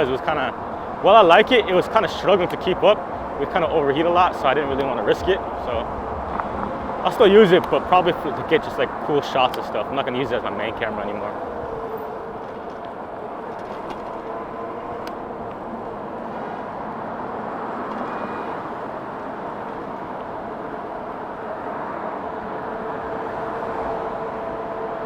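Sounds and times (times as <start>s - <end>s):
wind and tyre rush: 0.0s - 25.0s.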